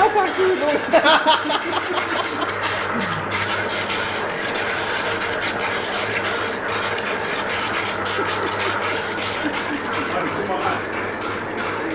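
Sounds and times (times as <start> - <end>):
drilling machine motor hum: 0.0 - 11.9.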